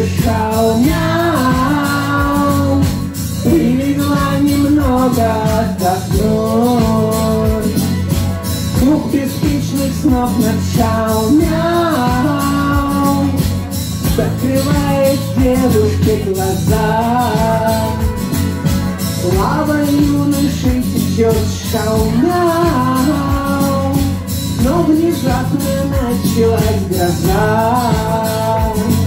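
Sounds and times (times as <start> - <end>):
backing track with steady beat: 0.0 - 29.0
man singing into a microphone: 0.0 - 29.0.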